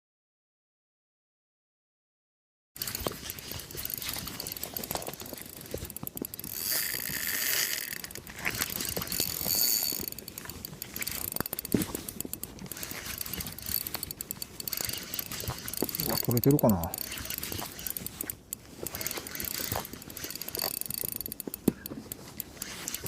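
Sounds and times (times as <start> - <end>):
fishing reel ratcheting click: 2.8 - 23.0.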